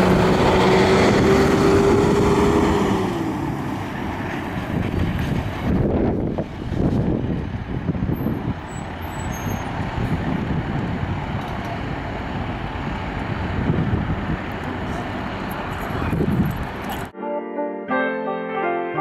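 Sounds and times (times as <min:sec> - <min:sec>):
cars and trucks passing: 0:00.0 - 0:17.1.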